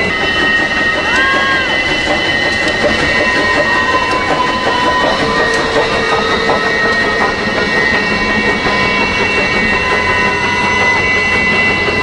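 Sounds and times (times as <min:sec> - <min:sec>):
high-pitched ringing tones: 0:00.0 - 0:12.0
railroad cars rumbling: 0:00.0 - 0:12.0.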